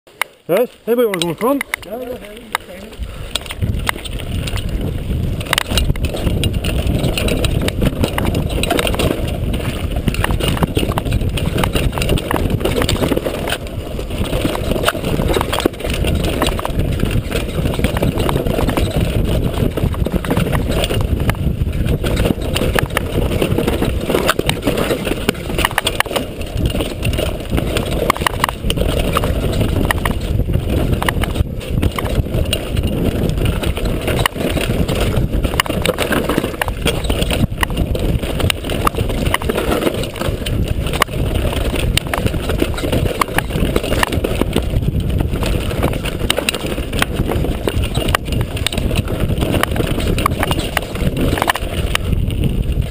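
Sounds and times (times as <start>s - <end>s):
wind and tyres rumbling on dirt: 0.1s - 52.9s
bike chain and frame clattering: 0.2s - 52.9s.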